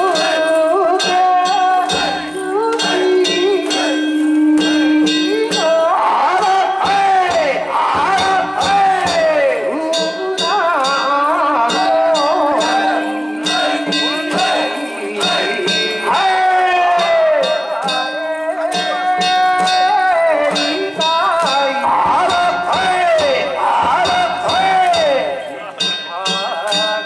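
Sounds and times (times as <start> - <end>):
wavering melody line: 0.0 - 7.4, 8.1 - 26.8
metal gongs and drums: 0.0 - 27.0.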